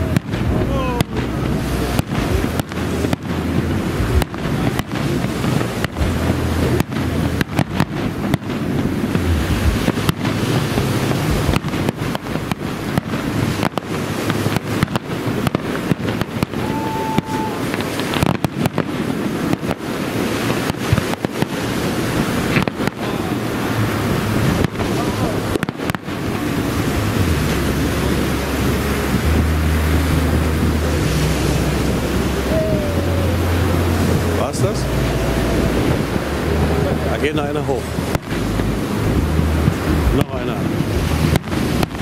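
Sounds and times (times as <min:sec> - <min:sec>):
dense background noise: 0:00.0 - 0:42.0
fireworks bangs and crackles: 0:00.0 - 0:42.0.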